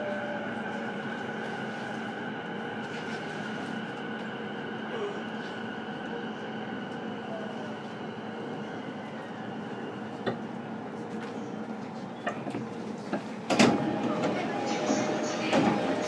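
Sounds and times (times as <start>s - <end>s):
train electrical hum: 0.0s - 16.0s.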